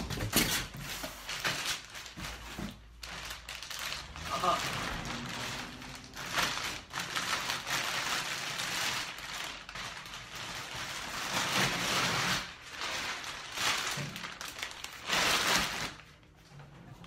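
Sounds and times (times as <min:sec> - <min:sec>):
plastic bag crinkling and rustling: 0:00.0 - 0:17.0.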